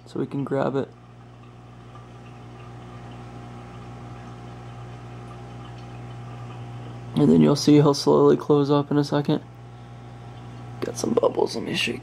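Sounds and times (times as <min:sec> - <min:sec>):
aquarium equipment humming: 0:00.0 - 0:12.0.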